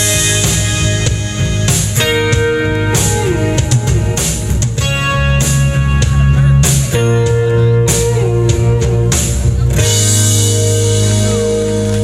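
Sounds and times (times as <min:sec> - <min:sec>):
drums: 0:00.0 - 0:12.0
electric guitar with bent notes: 0:00.0 - 0:12.0.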